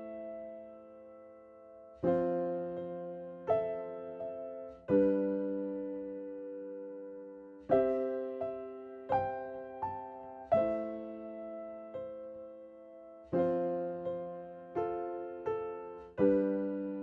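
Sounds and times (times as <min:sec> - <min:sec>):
slow gentle piano chords: 0:00.0 - 0:17.0.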